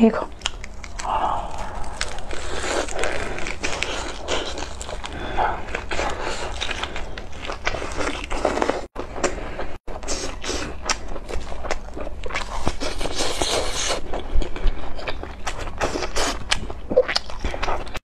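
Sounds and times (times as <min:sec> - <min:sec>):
crunchy close-up chewing: 0:00.3 - 0:18.0.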